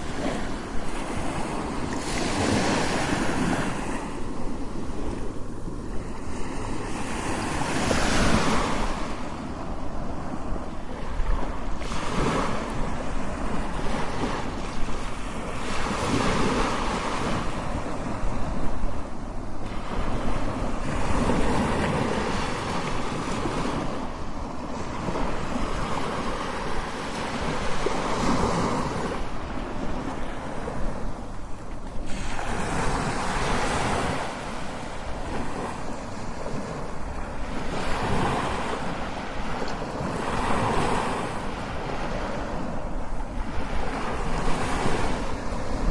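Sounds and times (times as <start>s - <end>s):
ocean waves crashing: 0.0s - 45.9s.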